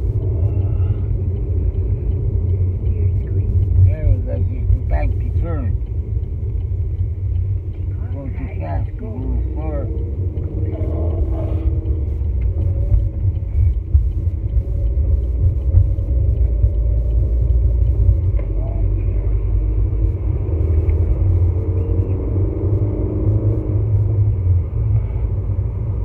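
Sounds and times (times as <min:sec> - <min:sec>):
vehicle road rumble inside cabin: 0:00.0 - 0:26.0.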